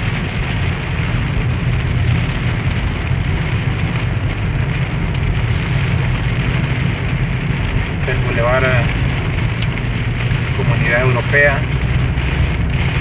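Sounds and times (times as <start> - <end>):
heavy rain on car roof: 0.0 - 13.0
low road rumble: 0.0 - 13.0.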